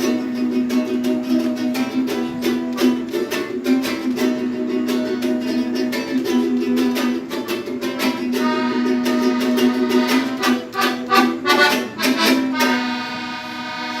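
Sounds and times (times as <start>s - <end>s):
strummed strings: 0.0s - 14.0s.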